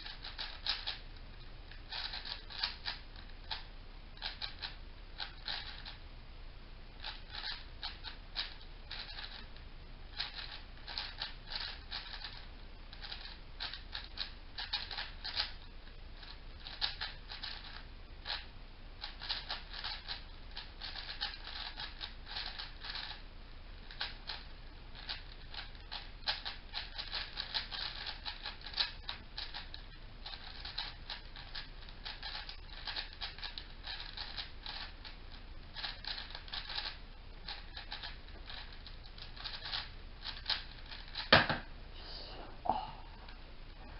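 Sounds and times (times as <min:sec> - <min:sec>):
puzzle cube plastic clicks: 0:00.0 - 0:01.0, 0:01.7 - 0:06.0, 0:07.0 - 0:09.4, 0:10.2 - 0:15.6, 0:16.2 - 0:23.2, 0:23.8 - 0:35.0, 0:35.7 - 0:41.4.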